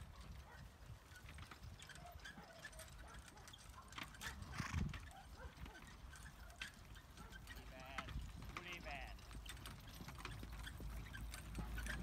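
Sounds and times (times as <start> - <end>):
faint hoofbeats on grass: 0.0 - 12.0.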